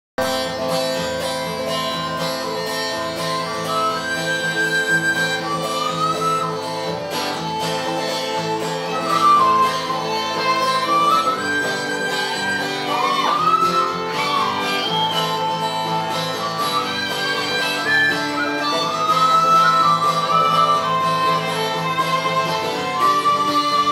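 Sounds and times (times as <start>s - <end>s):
guitar chords: 0.2s - 23.9s
lead melody with sliding notes: 0.2s - 23.9s.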